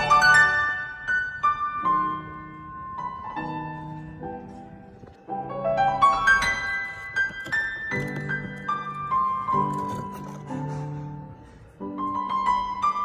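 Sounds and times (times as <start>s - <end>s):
gentle piano piece: 0.0s - 13.0s.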